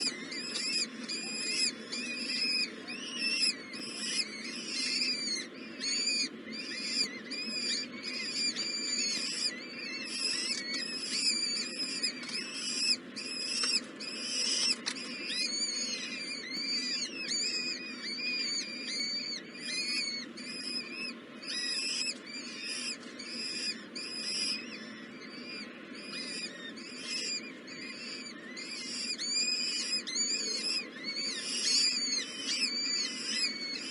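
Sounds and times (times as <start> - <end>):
nestling birds chirping: 0.0 - 33.9.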